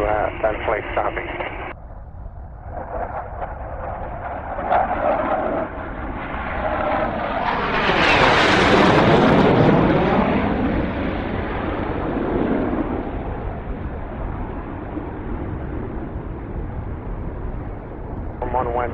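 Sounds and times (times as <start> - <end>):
jet flying past: 0.0 - 18.9.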